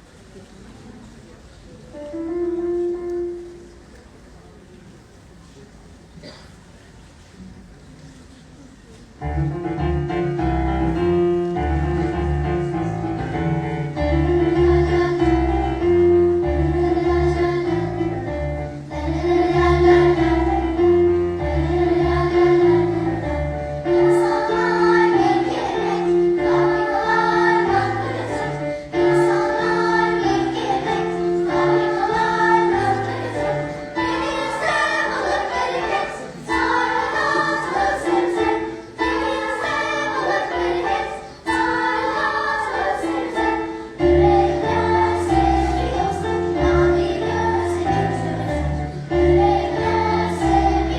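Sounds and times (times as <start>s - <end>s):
instrumental accompaniment: 9.2s - 50.9s
children's choir singing: 9.3s - 50.9s.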